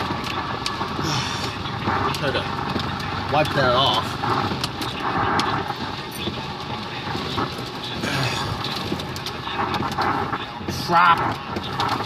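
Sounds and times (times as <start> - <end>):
heavy rain on car roof: 0.0 - 12.0
sharp clicks and crackles: 0.0 - 12.0.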